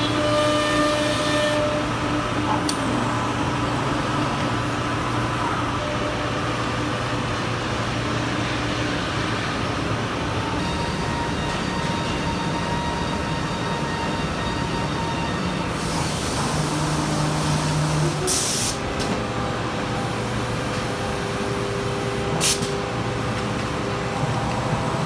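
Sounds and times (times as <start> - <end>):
machine drone with steady tones: 0.0 - 25.0.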